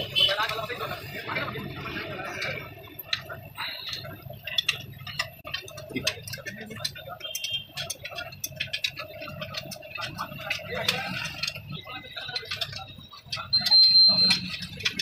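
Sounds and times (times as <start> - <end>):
hand tools clicking on metal: 2.3 - 15.0.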